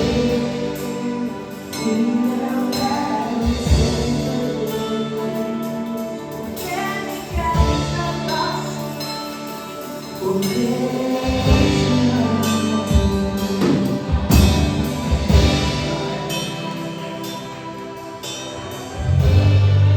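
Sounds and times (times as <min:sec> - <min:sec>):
band accompaniment: 0:00.0 - 0:19.9
heavy drum beats: 0:00.0 - 0:19.9.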